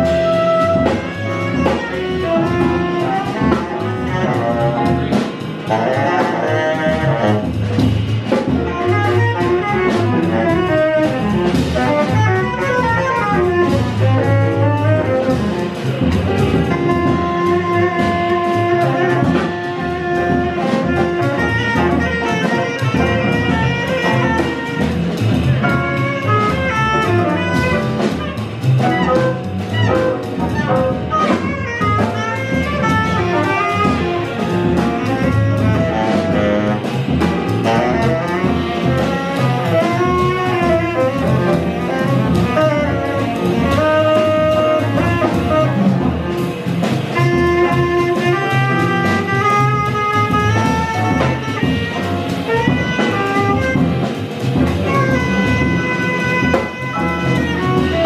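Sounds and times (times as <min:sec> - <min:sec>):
cymbals played with sticks: 0:00.0 - 0:58.0
piano: 0:00.0 - 0:58.0
saxophone melody: 0:00.0 - 0:58.0
walking double bass: 0:00.0 - 0:58.0.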